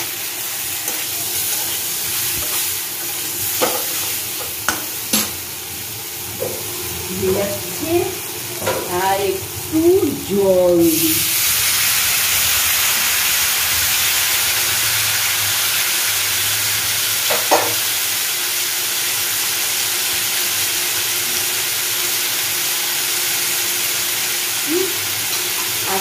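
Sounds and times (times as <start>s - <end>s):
potatoes sizzling in oil: 0.0s - 26.0s.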